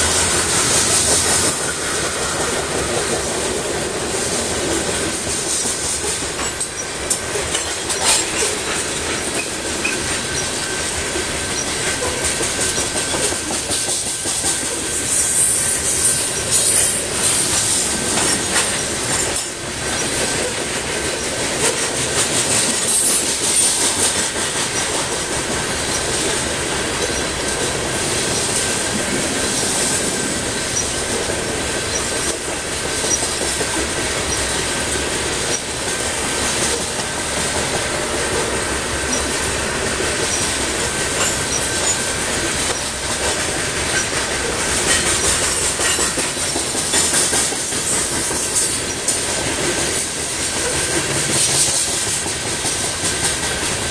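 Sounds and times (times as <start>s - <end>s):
steel wheels clacking over rails: 0.0s - 53.9s.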